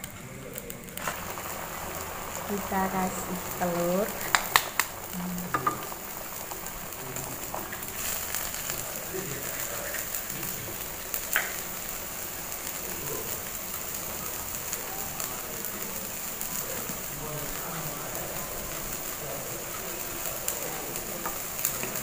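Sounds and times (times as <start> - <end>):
water boiling in a wok: 0.0 - 22.0.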